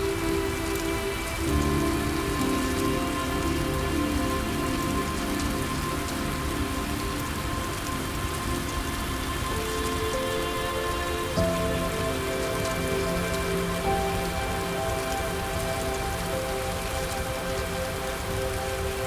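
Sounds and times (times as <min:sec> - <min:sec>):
soft ambient music: 0:00.0 - 0:19.0
steady rain: 0:00.0 - 0:19.0.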